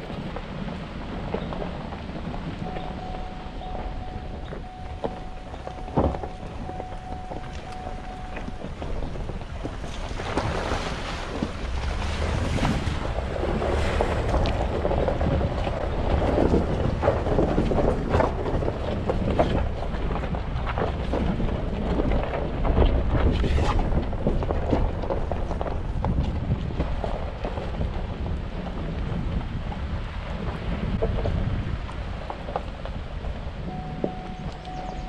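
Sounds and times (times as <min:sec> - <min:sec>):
truck engine low rumble: 0:00.0 - 0:35.0
tyres crunching on gravel: 0:00.0 - 0:35.0
wind buffeting microphone: 0:00.0 - 0:35.0.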